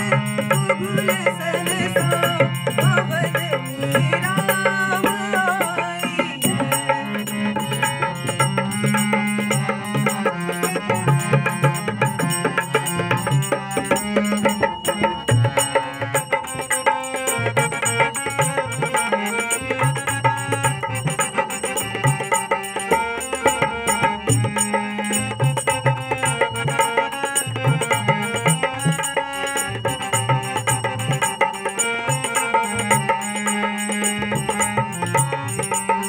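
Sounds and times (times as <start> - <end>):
hand drum rhythm: 0.0 - 36.0
harmonium reed notes: 0.0 - 36.0.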